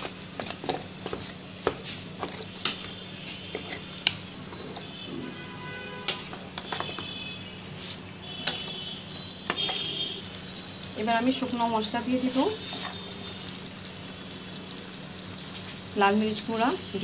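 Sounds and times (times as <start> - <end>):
light sizzle: 0.0 - 17.0.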